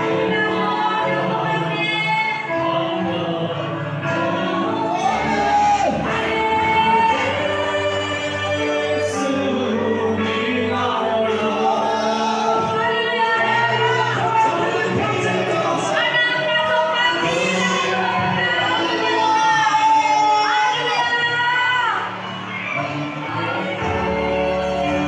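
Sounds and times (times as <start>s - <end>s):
choir singing gospel song: 0.0s - 25.0s
musical accompaniment: 0.0s - 25.0s.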